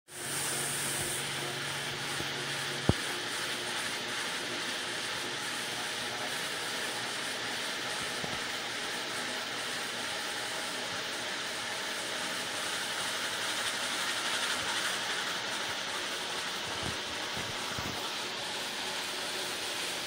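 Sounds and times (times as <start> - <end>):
carpet cleaner suction and motor: 0.1 - 20.0.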